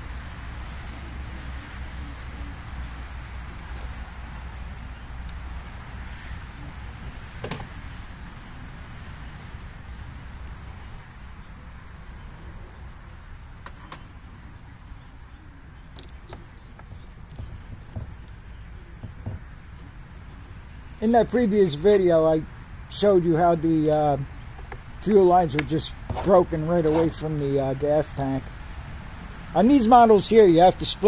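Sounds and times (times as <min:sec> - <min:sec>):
outdoor background hiss: 0:00.0 - 0:31.0.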